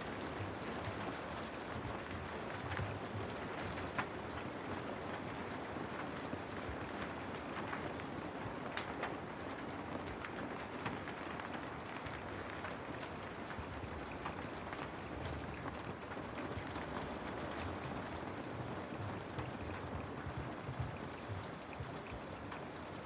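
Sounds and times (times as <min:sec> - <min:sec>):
rain on a window: 0:00.0 - 0:23.0.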